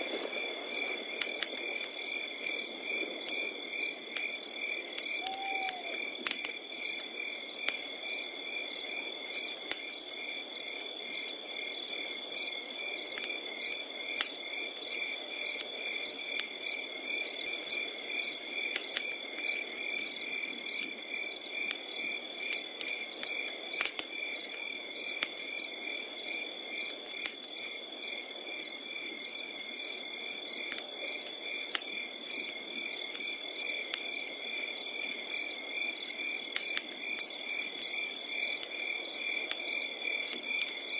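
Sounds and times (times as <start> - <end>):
crickets trilling: 0.0 - 40.9
wood fire crackling and popping: 0.0 - 40.9
pulsed cricket chirping: 0.1 - 40.9.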